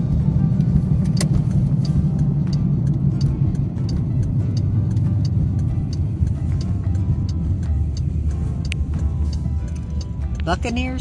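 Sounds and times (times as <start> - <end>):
background music with ticking beat: 0.0 - 11.0
road noise inside a car: 0.0 - 11.0.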